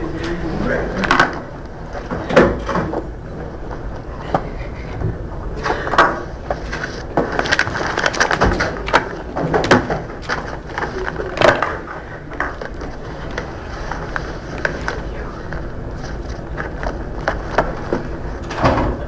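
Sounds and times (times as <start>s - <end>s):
people rustling and moving about: 0.0s - 19.0s.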